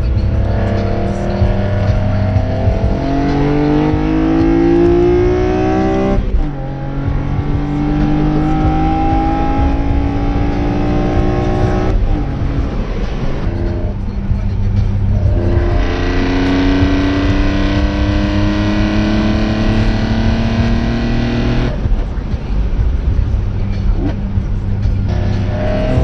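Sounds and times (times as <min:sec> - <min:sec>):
car engine revving under acceleration: 0:00.0 - 0:26.0.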